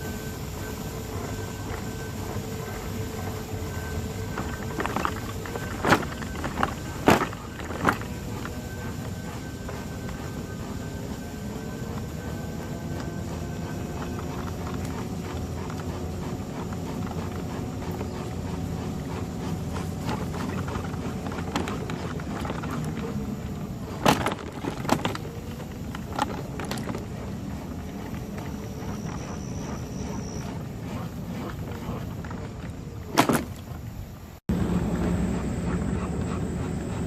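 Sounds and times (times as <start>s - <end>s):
rolling rumble of trail ride: 0.0s - 37.0s.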